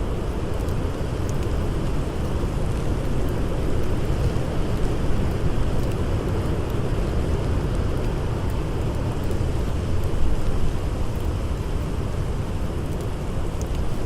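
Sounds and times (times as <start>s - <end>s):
campfire crackling: 0.2s - 14.0s.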